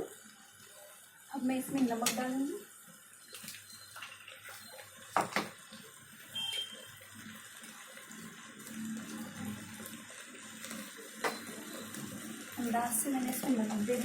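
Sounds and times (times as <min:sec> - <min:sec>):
rice sizzling in pressure cooker: 0:00.0 - 0:14.0.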